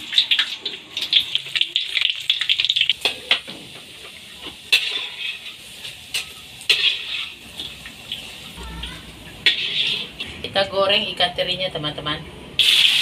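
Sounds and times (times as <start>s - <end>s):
sausages sizzling in oil: 0.0s - 11.2s, 12.6s - 13.0s.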